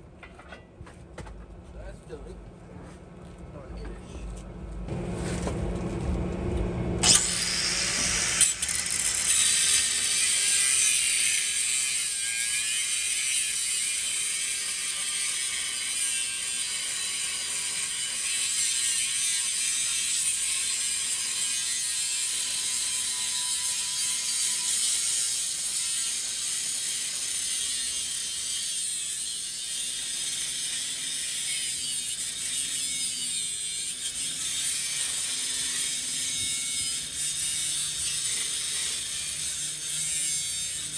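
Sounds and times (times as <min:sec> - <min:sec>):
power tool cutting metal pipe: 0:07.0 - 0:40.9.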